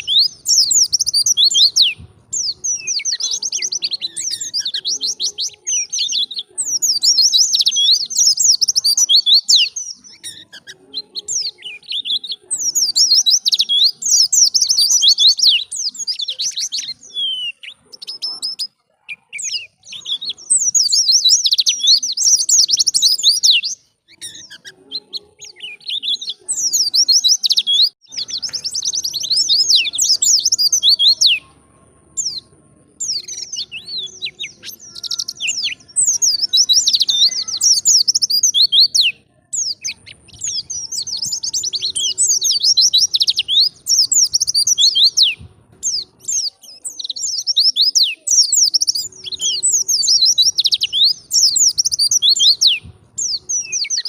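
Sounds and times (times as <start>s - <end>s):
bird twittering: 0.0s - 31.5s, 32.2s - 54.0s.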